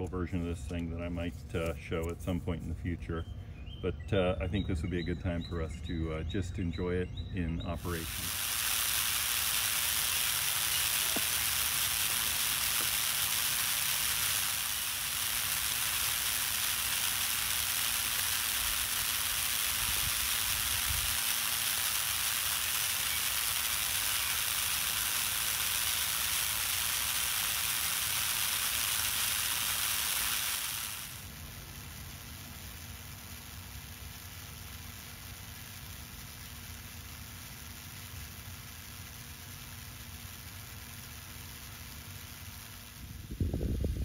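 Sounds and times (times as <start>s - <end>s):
sprinkler spraying water: 7.6s - 44.0s.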